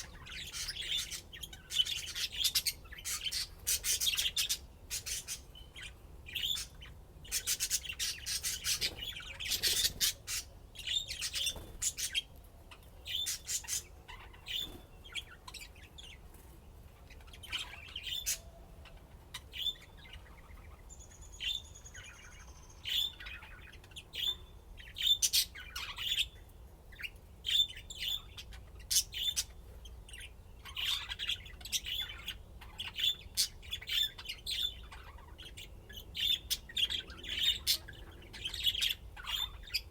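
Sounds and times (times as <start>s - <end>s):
budgerigars chirping: 0.0s - 12.3s, 13.1s - 16.2s, 17.0s - 39.9s.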